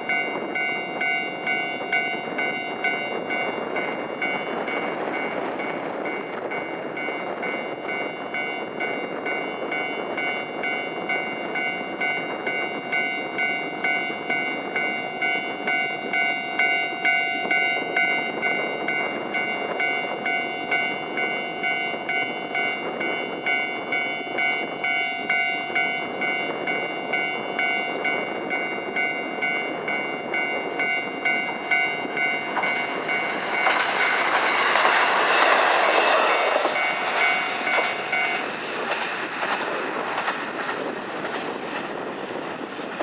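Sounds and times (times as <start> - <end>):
level crossing warning bell: 0.0 - 43.0
train wheels clacking on rails: 0.0 - 43.0.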